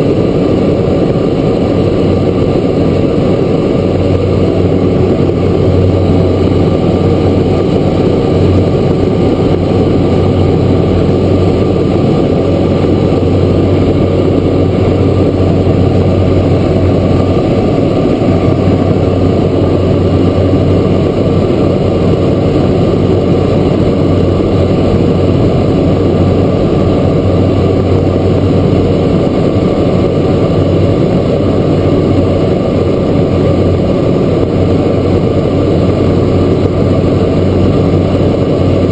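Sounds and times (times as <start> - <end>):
turboprop engine drone in cabin: 0.0 - 38.9.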